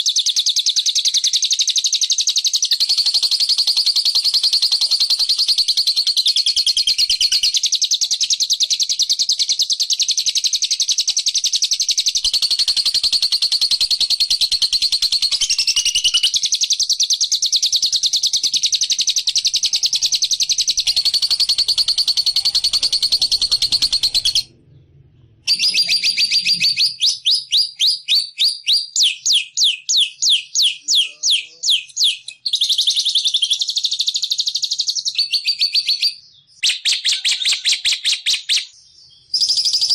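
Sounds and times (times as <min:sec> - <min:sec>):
recorded songbird chatter: 0:00.0 - 0:39.9.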